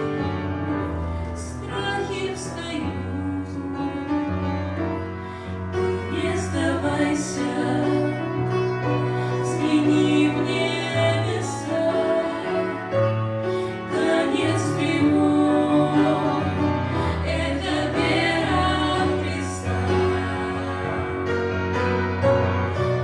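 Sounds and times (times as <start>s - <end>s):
choral singing: 0.9s - 4.8s, 5.8s - 23.0s.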